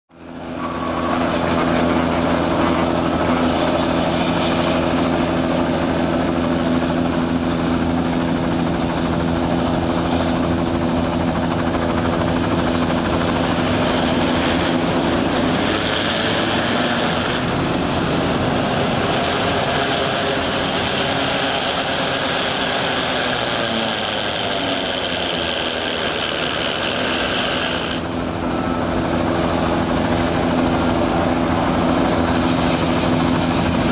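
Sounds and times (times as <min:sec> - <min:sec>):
jet engine whine: 0:00.1 - 0:33.9
low aircraft engine drone: 0:00.1 - 0:33.9.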